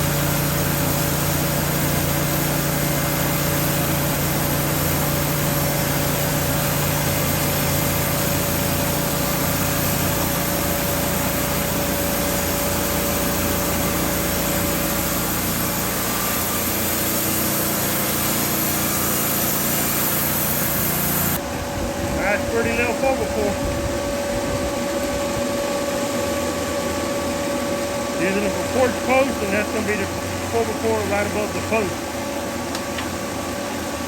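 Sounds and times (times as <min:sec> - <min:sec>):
band sawmill cutting log: 0:00.0 - 0:21.4, 0:22.2 - 0:23.6, 0:24.9 - 0:34.0.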